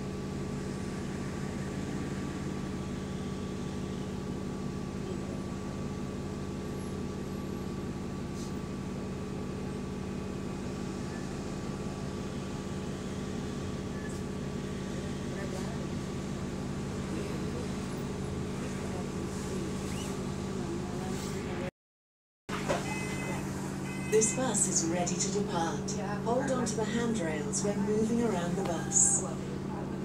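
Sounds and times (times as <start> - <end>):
engine cooling fan droning: 0.0 - 21.7, 22.5 - 30.0.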